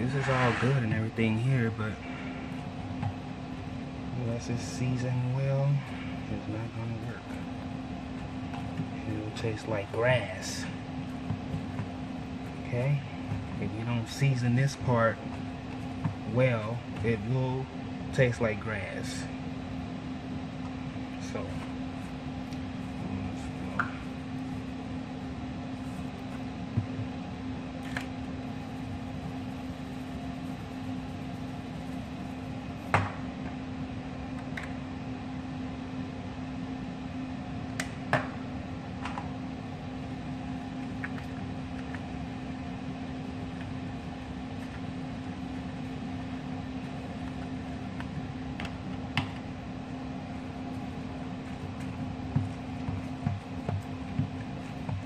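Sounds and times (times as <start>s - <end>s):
steady low appliance hum: 0.0s - 55.0s.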